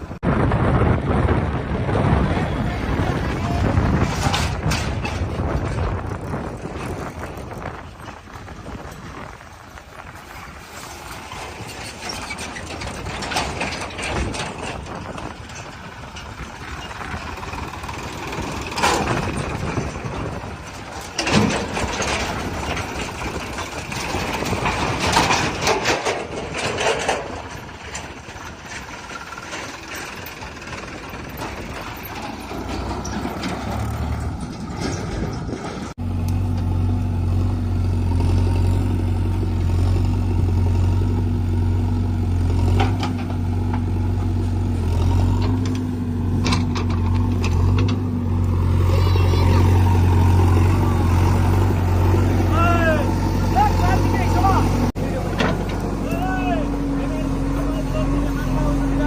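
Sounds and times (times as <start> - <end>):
close engine hum: 0.0 - 59.0
diesel engines running: 0.0 - 59.0
loud clanks and rattles: 0.9 - 37.0, 38.8 - 59.0.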